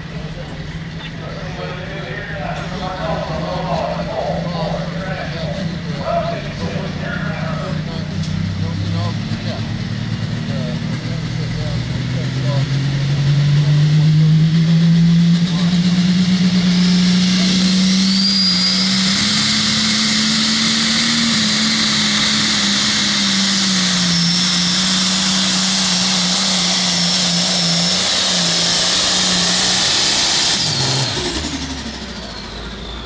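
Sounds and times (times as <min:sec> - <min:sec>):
high engine whine: 0:00.0 - 0:33.0
tractor diesel engine drone: 0:00.0 - 0:33.0.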